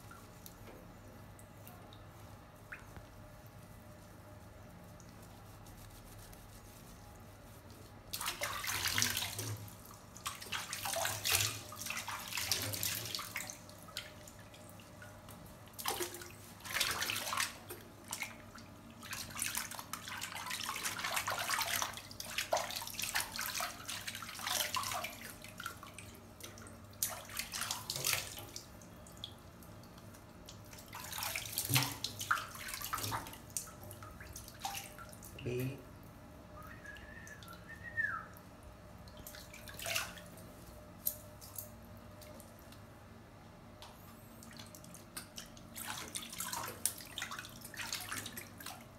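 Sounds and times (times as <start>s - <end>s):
water splashing in a sink: 0.0s - 42.8s, 44.3s - 48.9s.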